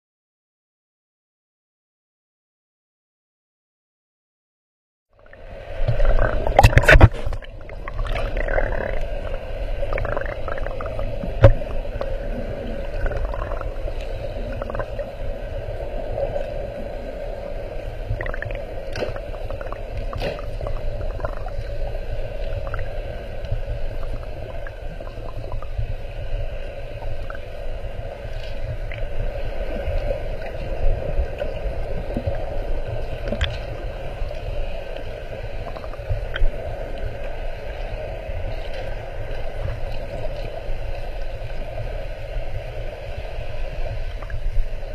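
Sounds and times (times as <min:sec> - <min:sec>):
underwater hum and rumble: 0:05.1 - 0:44.9.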